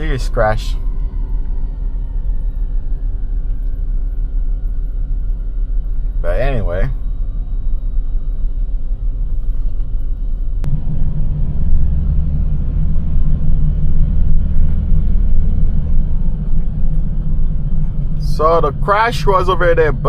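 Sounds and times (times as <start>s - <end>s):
truck engine drone: 0.0s - 20.0s.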